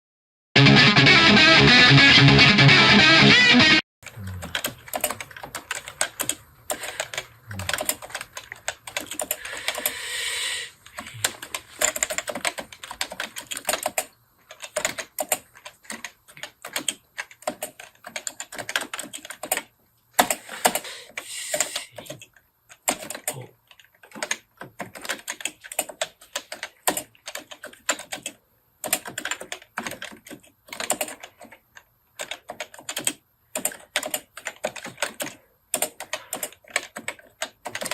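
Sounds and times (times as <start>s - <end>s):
fast keyboard typing: 4.2s - 10.2s, 10.8s - 37.9s.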